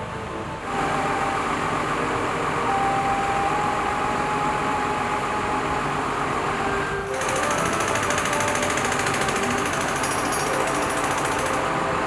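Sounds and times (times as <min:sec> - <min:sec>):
construction machinery running: 0:00.0 - 0:12.0.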